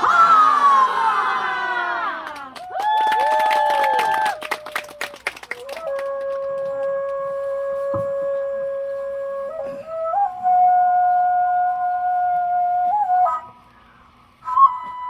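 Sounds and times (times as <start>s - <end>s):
flute playing long notes: 2.8s - 15.0s.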